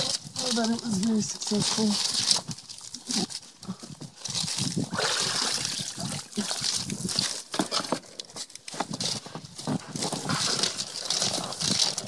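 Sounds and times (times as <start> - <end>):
water sloshing and trickling: 0.0 - 12.0.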